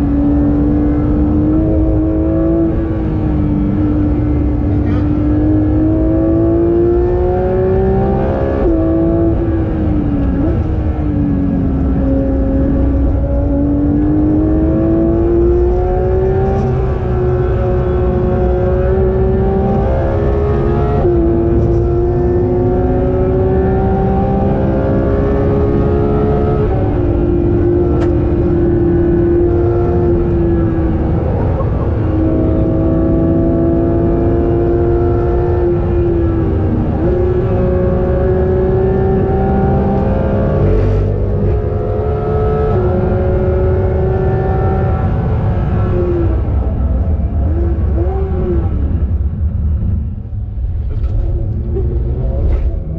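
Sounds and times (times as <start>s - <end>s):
car engine accelerating: 0.0s - 52.9s
road and tyre rumble: 0.0s - 52.9s.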